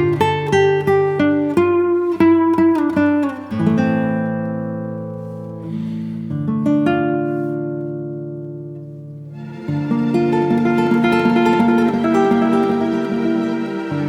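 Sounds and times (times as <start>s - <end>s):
plucked string instrument: 0.0s - 14.0s.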